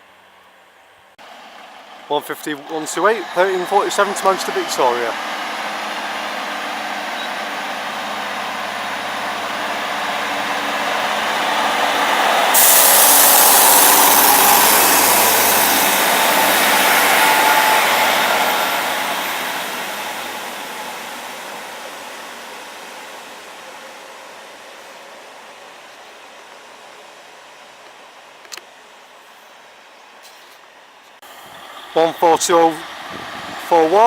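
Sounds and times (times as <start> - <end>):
diesel train passing: 0.0 - 29.0, 30.8 - 34.0.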